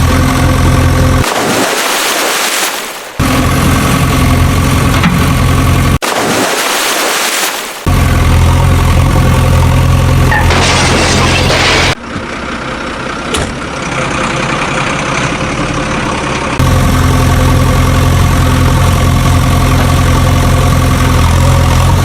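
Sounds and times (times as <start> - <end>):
vehicle engine running: 0.0 - 1.4, 3.2 - 6.0, 7.8 - 22.0.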